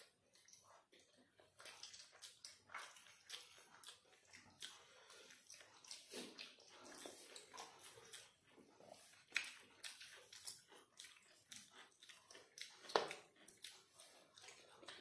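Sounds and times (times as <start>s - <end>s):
wet chewing: 0.0s - 15.0s
lip smacks: 0.3s - 15.0s.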